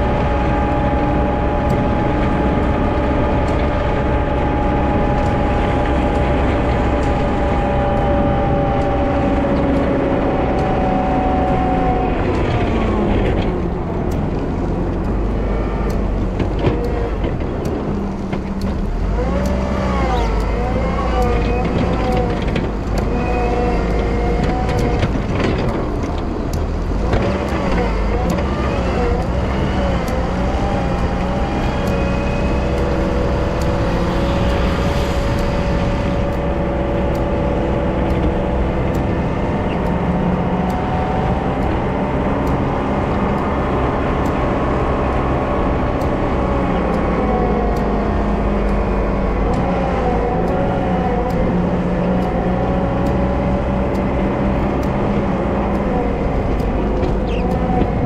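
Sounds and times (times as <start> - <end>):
diesel engine running: 0.0 - 58.0
wavering whine: 0.0 - 58.0.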